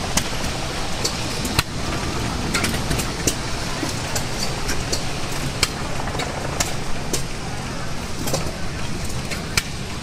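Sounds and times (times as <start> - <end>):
gas engine running machinery: 0.0 - 10.0.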